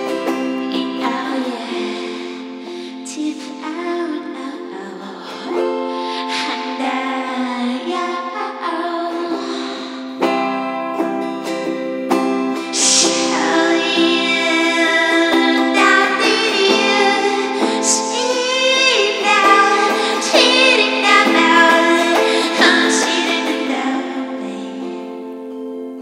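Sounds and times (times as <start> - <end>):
woman singing into microphone: 0.0 - 10.6, 12.6 - 25.3.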